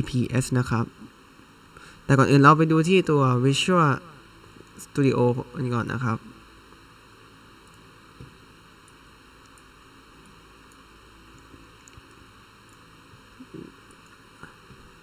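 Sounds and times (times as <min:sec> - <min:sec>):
faint microphone hiss: 0:00.0 - 0:15.0.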